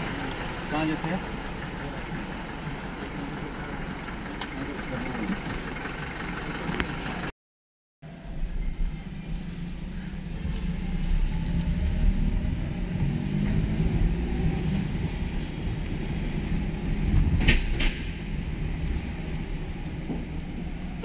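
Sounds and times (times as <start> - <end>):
car engine and tyre rumble: 0.0 - 7.3, 8.0 - 21.0.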